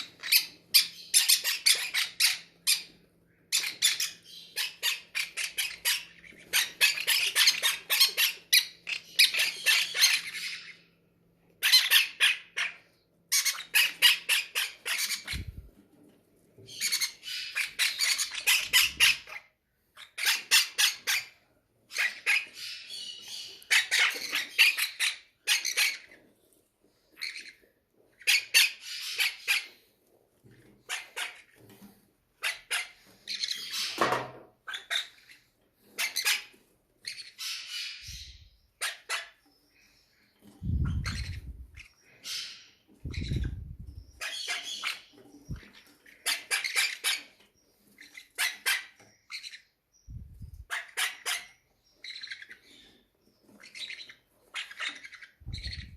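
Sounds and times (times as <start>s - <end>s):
parrot chicks begging squawks: 0.0s - 15.9s, 16.6s - 55.9s.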